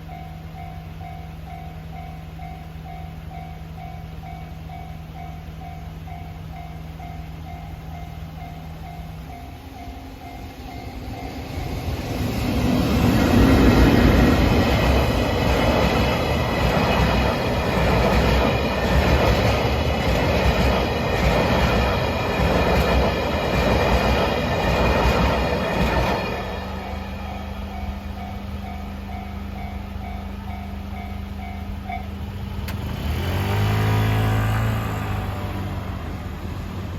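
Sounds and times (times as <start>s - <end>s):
crossing warning bell: 0.0s - 36.9s
train rumble: 0.0s - 36.9s.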